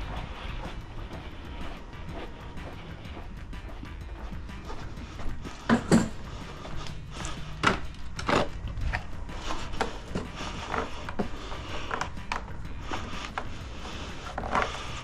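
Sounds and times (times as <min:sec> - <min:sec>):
low rumble: 0:00.0 - 0:14.7.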